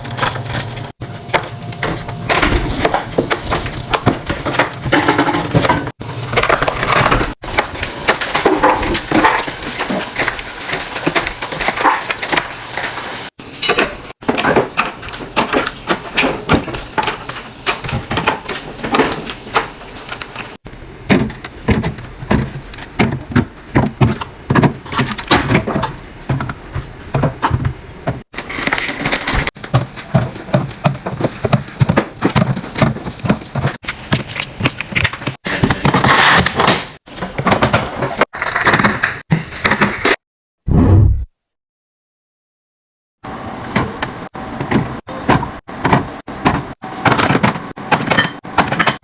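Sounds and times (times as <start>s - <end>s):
fridge drawer and door: 0.0s - 13.0s, 13.6s - 40.1s
plastic containers clattering: 0.0s - 13.0s, 13.6s - 40.0s.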